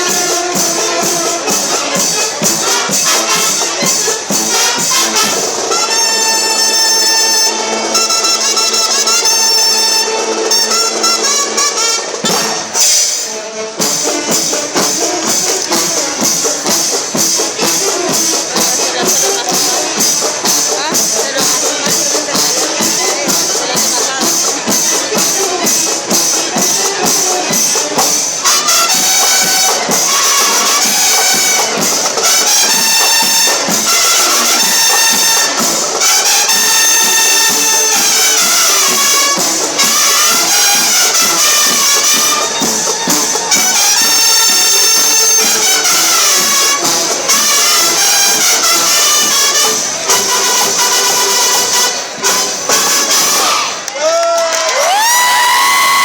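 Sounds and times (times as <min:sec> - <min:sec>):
pitched melody: 0:00.0 - 0:53.9
brass band music: 0:00.0 - 0:56.0
percussion beat: 0:00.0 - 0:56.0.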